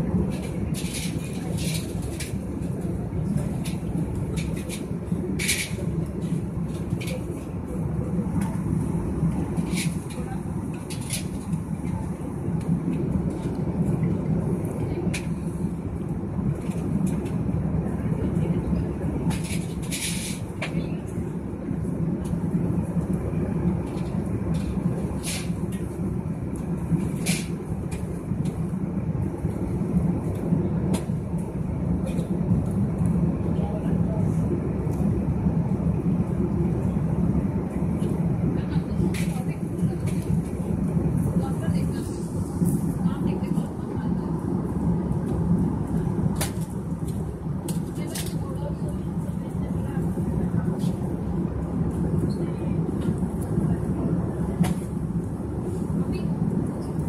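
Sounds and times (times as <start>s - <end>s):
airliner engine and airflow rush: 0.0s - 57.0s.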